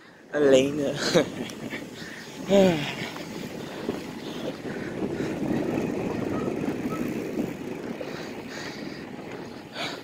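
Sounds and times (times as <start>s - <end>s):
bicycle tyres rolling on road: 0.0s - 10.0s
wind rushing past microphone: 0.6s - 10.0s.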